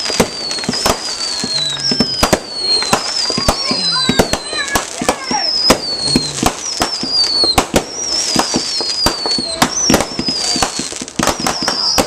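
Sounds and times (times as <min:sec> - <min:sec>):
fireworks bangs and crackles: 0:00.0 - 0:12.0
fireworks whistles: 0:00.0 - 0:12.0.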